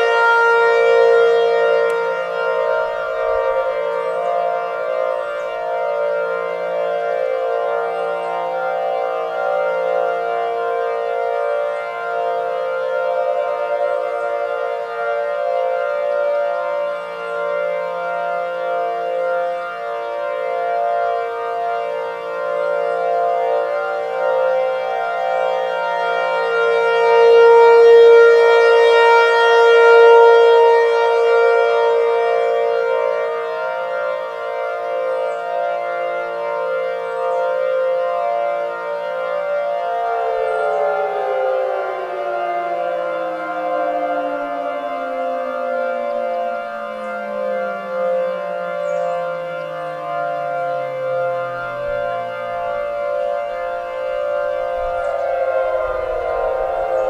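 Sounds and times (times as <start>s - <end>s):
siren synth chord: 0.0s - 57.0s.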